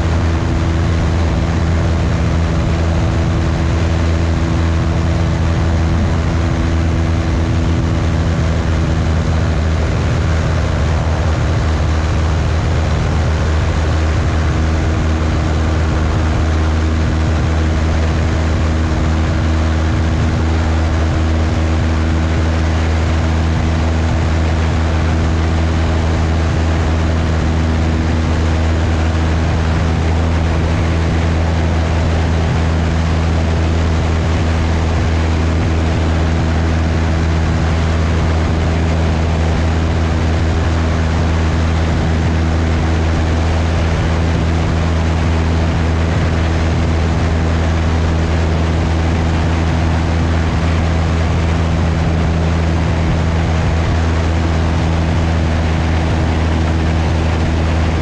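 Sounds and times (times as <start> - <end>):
airflow rushing over microphone: 0.0 - 58.0
airplane engine droning: 0.0 - 58.0.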